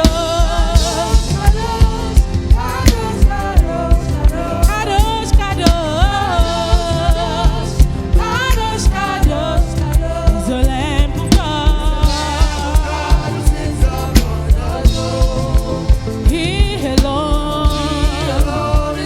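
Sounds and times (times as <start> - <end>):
band playing: 0.0 - 19.0
kick drum beat: 0.0 - 19.0
people singing with vibrato: 0.0 - 19.0.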